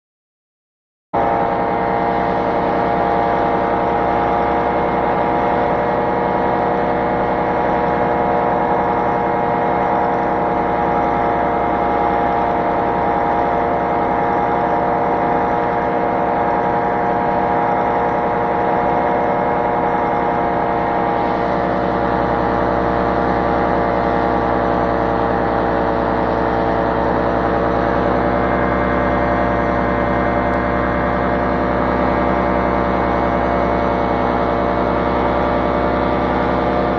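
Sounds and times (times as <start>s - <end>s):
small aircraft engine droning: 1.2s - 36.9s.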